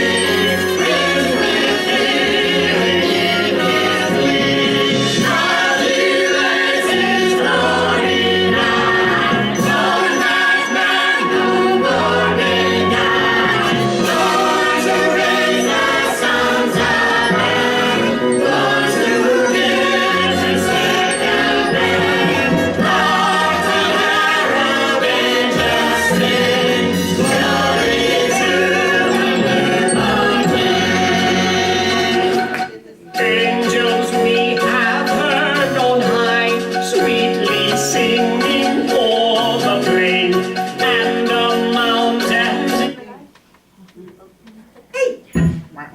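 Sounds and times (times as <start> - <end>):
choir singing: 0.0 - 43.0
instrumental accompaniment: 0.0 - 43.5, 45.3 - 45.9.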